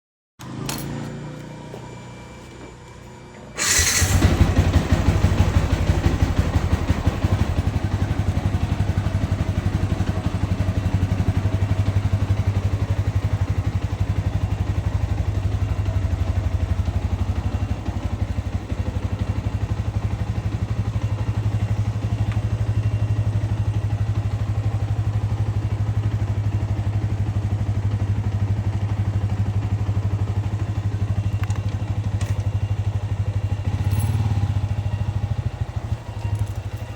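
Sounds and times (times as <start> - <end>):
motorcycle engine running: 3.6 - 36.9.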